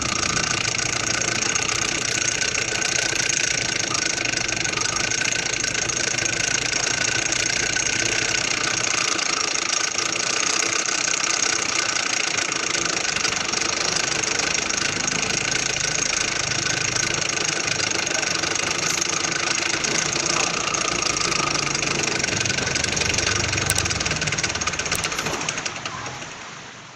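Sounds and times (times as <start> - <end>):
engine mechanical clatter: 0.0 - 26.9.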